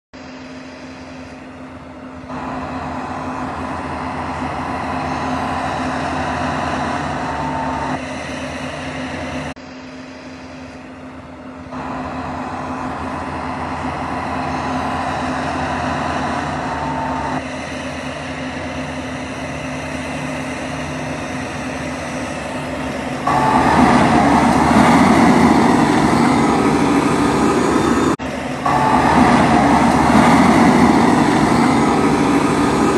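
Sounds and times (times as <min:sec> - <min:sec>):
tractor diesel engine under load: 0:00.2 - 0:32.9.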